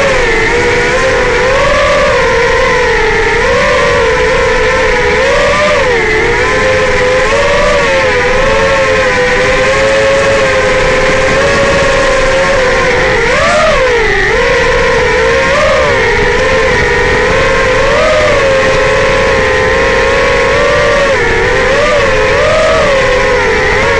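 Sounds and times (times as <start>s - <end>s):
drone motors whining and buzzing: 0.0s - 23.9s.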